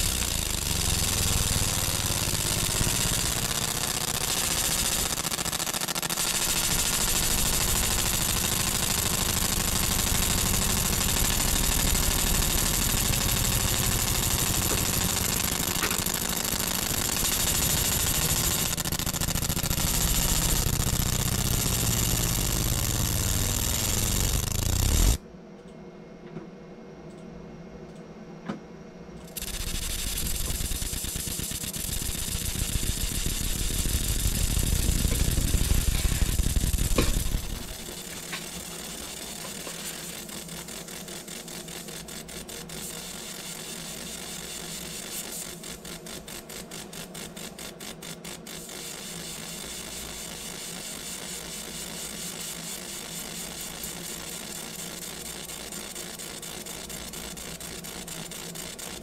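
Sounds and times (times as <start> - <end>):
faint rapid ticking: 0.0 - 25.2, 29.2 - 59.0
laser engraver hiss and hum: 0.0 - 25.2, 29.2 - 59.0.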